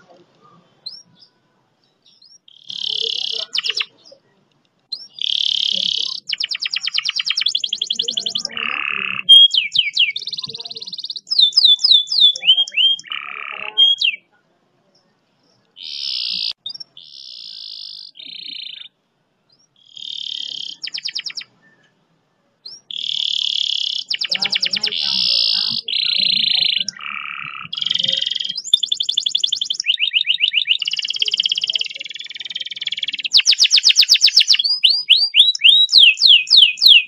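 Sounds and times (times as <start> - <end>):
canary singing trills: 0.0 - 22.0, 22.6 - 37.0.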